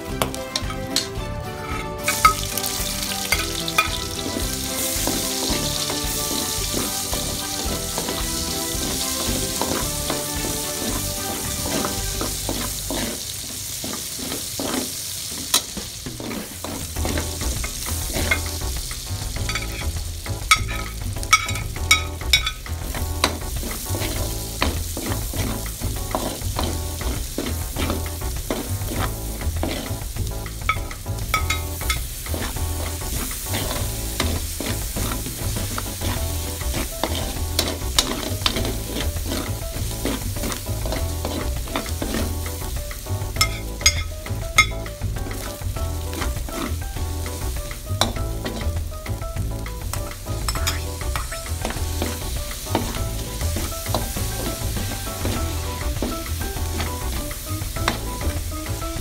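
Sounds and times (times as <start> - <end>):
spatula scraping metal pan: 0.0 - 18.7, 19.4 - 19.9, 20.5 - 48.8, 50.0 - 59.0
onion and garlic sizzling in oil: 0.0 - 59.0.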